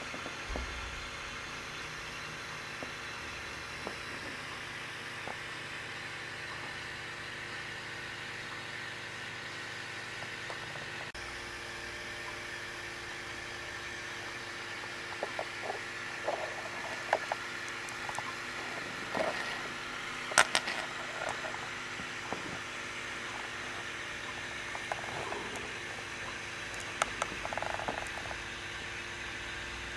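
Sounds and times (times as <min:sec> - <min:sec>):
low hum and hiss: 0:00.0 - 0:29.9.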